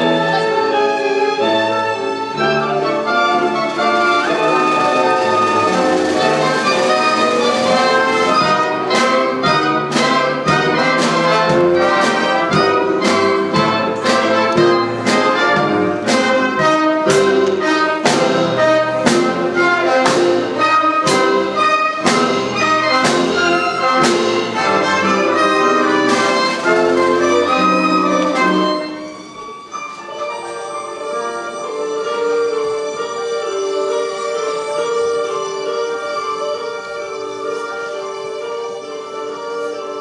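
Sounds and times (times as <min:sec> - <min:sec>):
orchestra with brass: 0:00.0 - 0:40.0.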